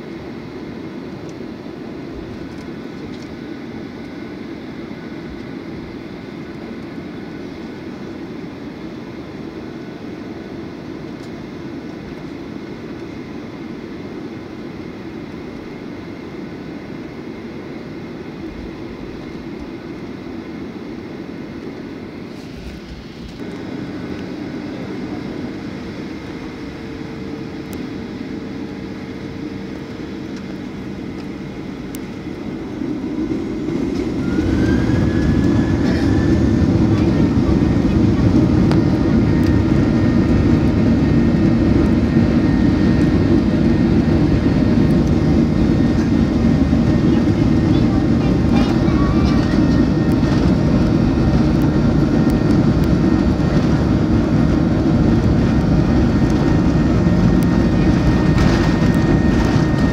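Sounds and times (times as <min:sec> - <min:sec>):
steady engine drone: 0:00.0 - 0:59.9
airliner cabin rumble: 0:00.1 - 0:59.9.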